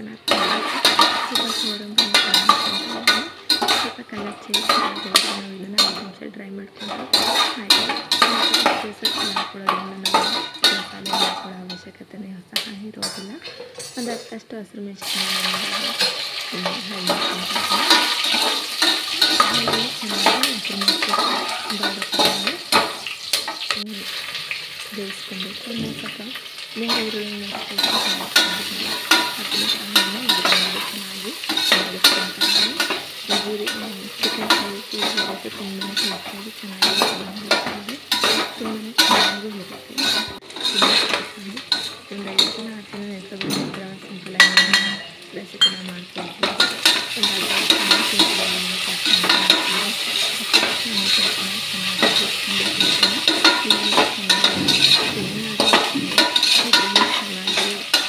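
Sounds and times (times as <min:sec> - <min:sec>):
metal spatula scraping pot: 0:00.0 - 0:11.8, 0:12.6 - 0:14.4, 0:15.0 - 0:58.0
onions sizzling in oil: 0:00.0 - 0:14.2, 0:15.0 - 0:58.0.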